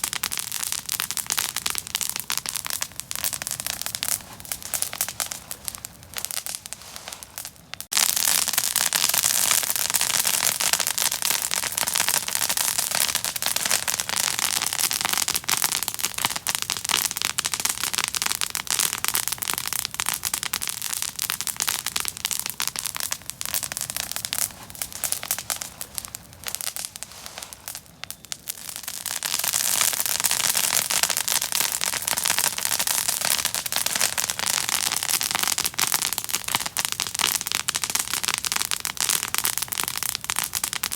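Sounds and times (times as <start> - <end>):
open fire crackling: 0.0 - 40.9.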